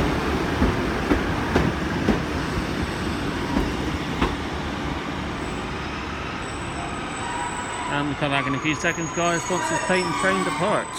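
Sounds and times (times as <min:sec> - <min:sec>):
train rumbling slowly: 0:00.0 - 0:10.9.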